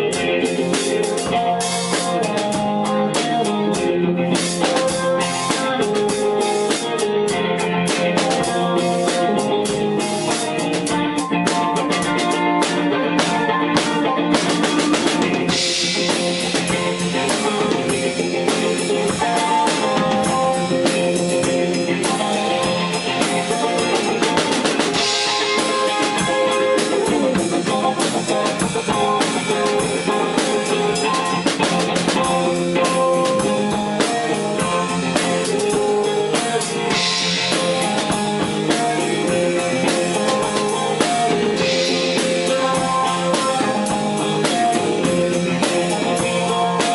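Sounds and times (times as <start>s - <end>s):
drum kit beat: 0.0s - 46.9s
electric guitar: 0.0s - 46.9s.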